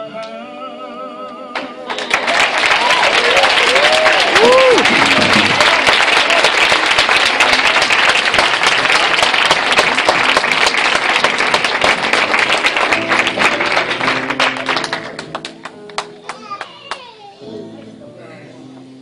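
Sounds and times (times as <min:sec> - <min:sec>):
audience applauding: 0:01.6 - 0:17.2.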